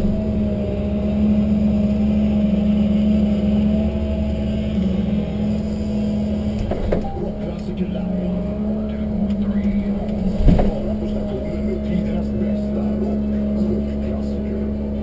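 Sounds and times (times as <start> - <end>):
diesel engine drone: 0.0 - 15.0
hydraulic whine: 0.0 - 15.0.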